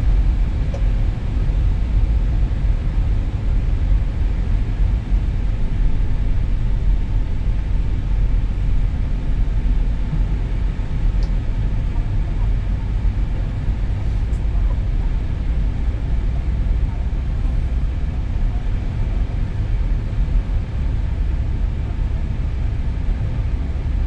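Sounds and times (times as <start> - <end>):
low rumble in aircraft cockpit: 0.0 - 24.0.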